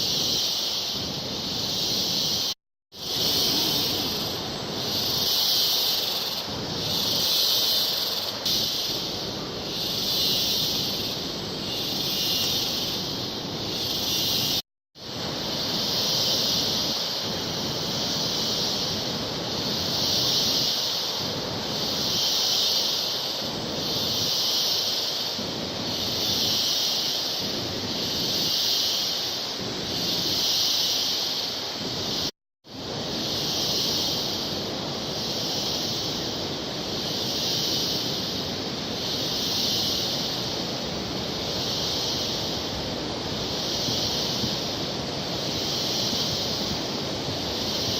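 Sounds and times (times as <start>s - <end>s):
high shrill hiss: 0.0s - 47.9s.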